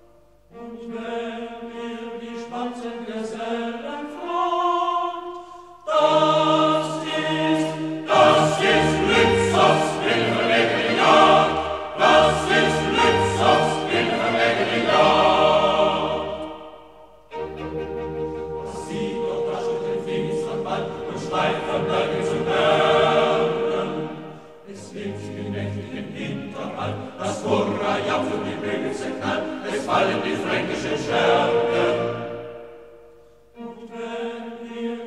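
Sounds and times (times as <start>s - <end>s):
men's choir with orchestra: 0.0s - 35.0s.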